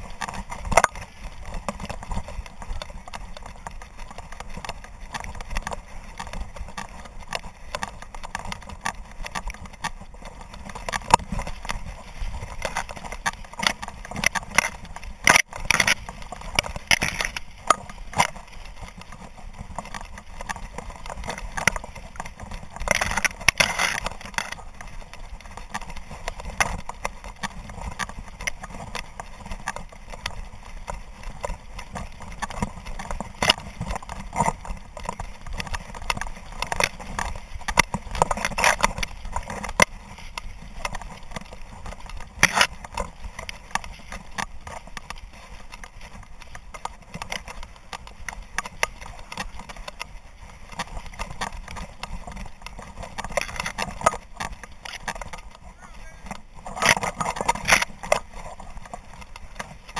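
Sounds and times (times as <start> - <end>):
dry grass rustling and scraping: 0.0 - 59.9.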